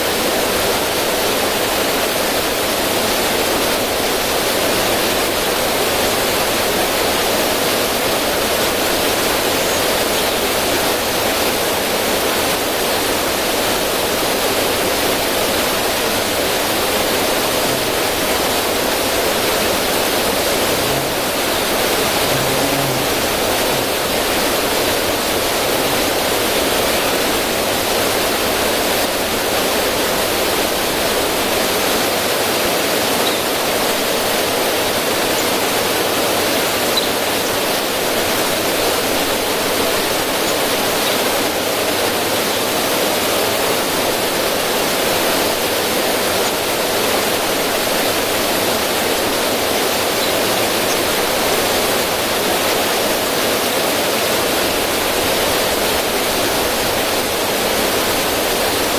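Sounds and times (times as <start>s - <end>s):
river water over stones: 0.0s - 58.9s.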